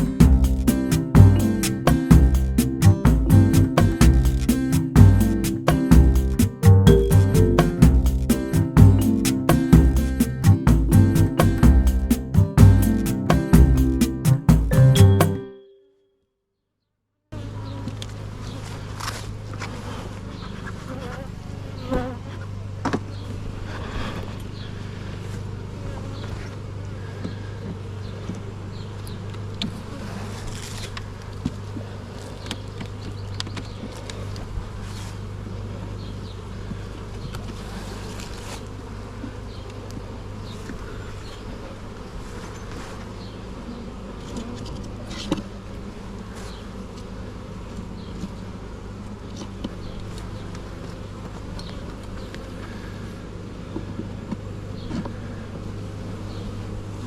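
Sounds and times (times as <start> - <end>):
honey bees buzzing: 0.0 - 15.4, 23.5 - 57.0.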